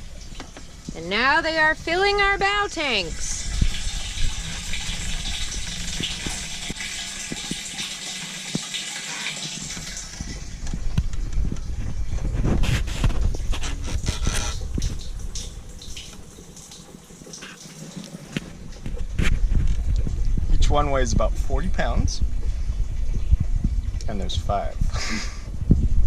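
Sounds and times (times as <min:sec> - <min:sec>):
water gushing into a tank: 0:00.0 - 0:26.0.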